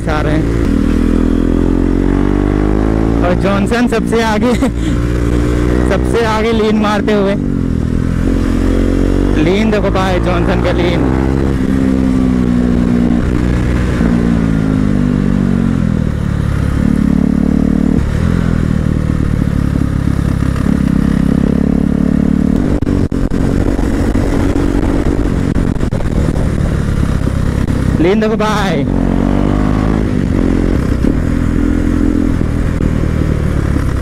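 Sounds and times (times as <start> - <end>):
wind rush: 0.0 - 17.2, 17.8 - 34.0
motorcycle engine: 0.0 - 34.0.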